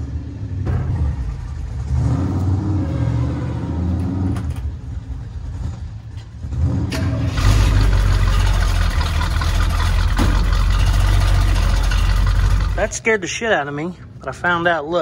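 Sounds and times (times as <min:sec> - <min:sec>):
pickup truck engine rumbling: 0:00.0 - 0:14.9.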